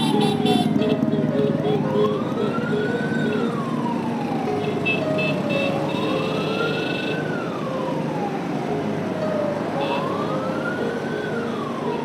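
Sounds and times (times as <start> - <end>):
emergency siren wailing: 0.0 - 12.0
road noise: 0.0 - 12.0.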